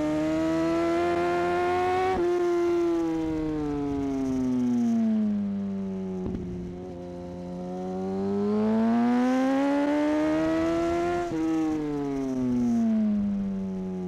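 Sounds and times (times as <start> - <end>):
motorcycle engine revving: 0.0 - 4.6, 6.2 - 14.0.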